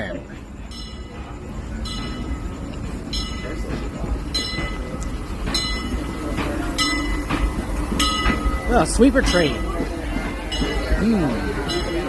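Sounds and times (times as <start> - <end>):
steam locomotive bell ringing: 0.0 - 12.0
train rumbling on rails: 0.0 - 12.0.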